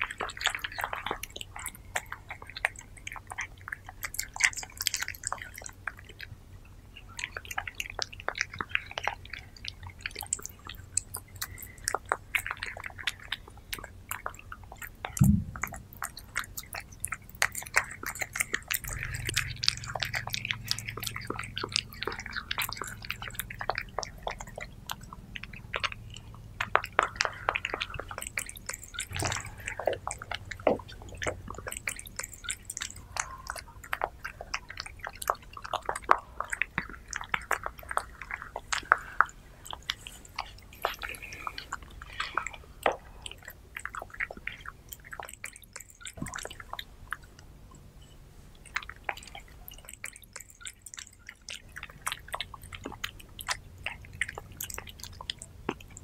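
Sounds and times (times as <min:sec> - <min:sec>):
cats chewing wetly: 0:00.0 - 0:56.0.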